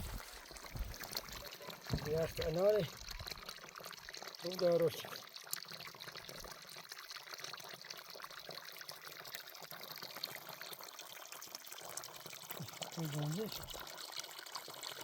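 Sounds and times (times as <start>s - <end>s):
water pouring and trickling: 0.0s - 15.0s.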